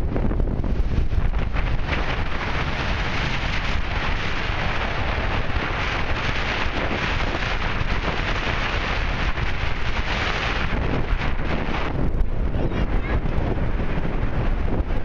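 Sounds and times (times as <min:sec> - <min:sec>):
heavy breaking surf: 0:00.0 - 0:15.0
wind buffeting microphone: 0:00.0 - 0:15.0.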